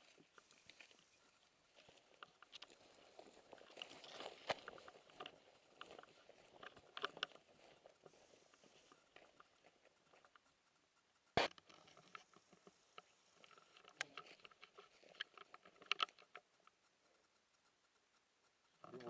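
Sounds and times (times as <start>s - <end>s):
brush rustling: 0.0s - 19.0s.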